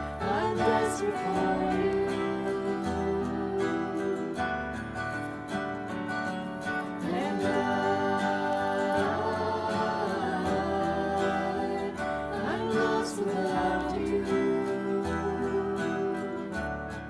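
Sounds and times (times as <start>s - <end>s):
person singing worship music: 0.0s - 17.0s
strummed acoustic guitar: 0.0s - 17.0s.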